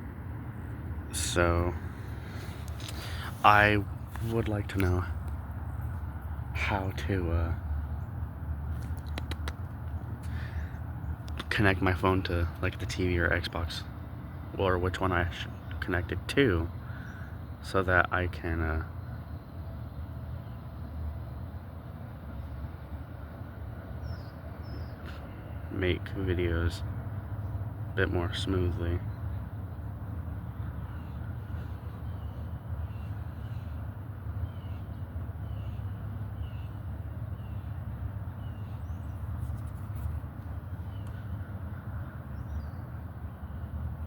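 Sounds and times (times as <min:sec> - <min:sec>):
low outdoor street rumble: 0:00.0 - 0:44.0.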